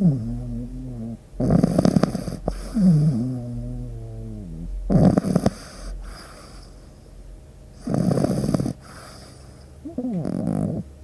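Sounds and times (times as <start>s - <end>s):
dog snoring: 0.0s - 6.9s, 7.8s - 11.0s.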